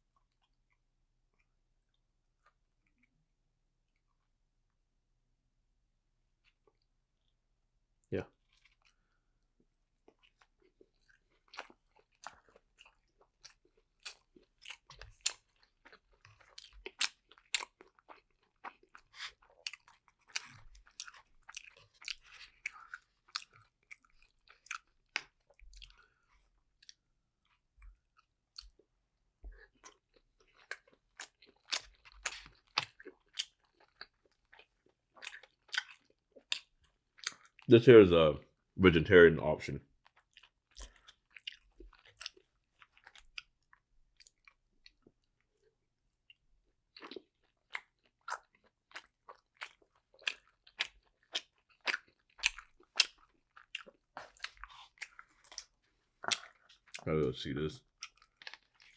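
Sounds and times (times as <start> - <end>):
person chewing: 8.3 - 37.7, 40.0 - 58.9.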